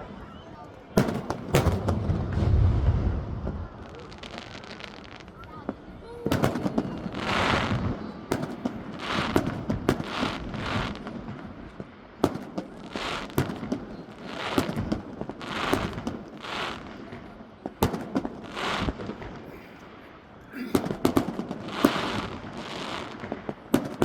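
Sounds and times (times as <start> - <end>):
fireworks bangs: 0.0 - 24.0
fireworks crackling and hissing: 0.0 - 24.0.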